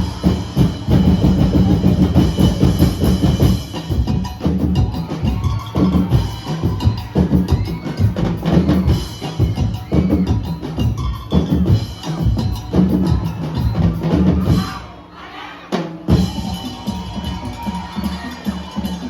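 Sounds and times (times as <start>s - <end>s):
bass drums: 0.0s - 14.8s, 16.0s - 18.8s
percussion ensemble drumming: 0.0s - 19.0s
snare drums: 0.0s - 19.0s.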